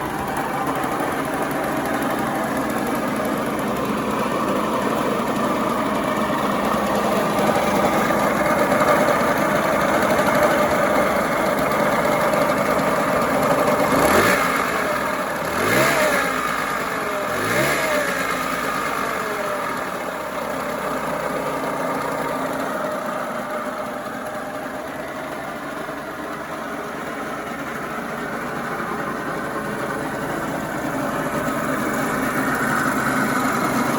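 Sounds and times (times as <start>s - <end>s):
two-stroke engine idling and revving: 0.0s - 33.9s.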